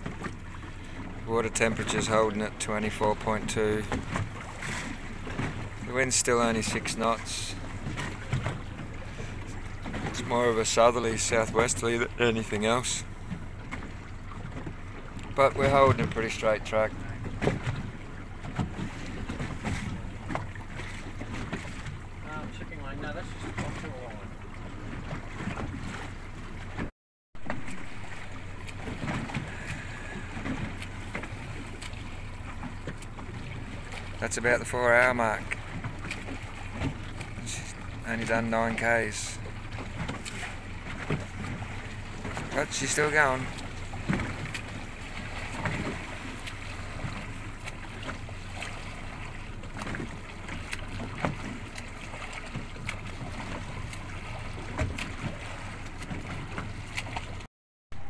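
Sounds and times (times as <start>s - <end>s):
boat motor humming: 0.0s - 58.0s
water noise: 0.0s - 58.0s
wind: 0.0s - 58.0s.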